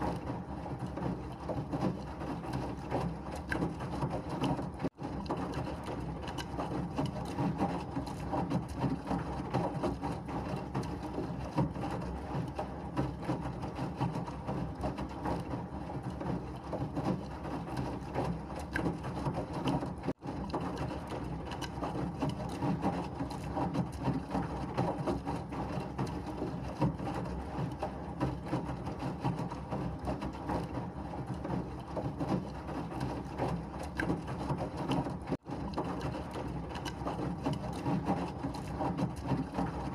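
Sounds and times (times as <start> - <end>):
washing machine churning: 0.0 - 39.9.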